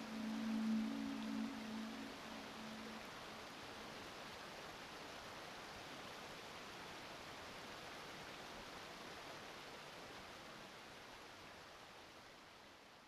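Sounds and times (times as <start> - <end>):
stream rushing over rocks: 0.0 - 12.4.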